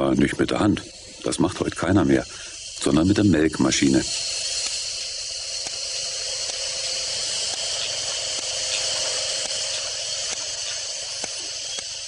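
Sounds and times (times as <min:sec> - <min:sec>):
milking machine vacuum hissing: 0:00.0 - 0:12.0
faint regular ticks: 0:00.1 - 0:12.0.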